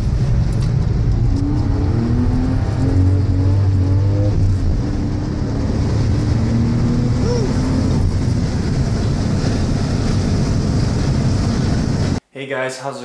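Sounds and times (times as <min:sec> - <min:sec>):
car engine rumbling: 0:00.0 - 0:12.2.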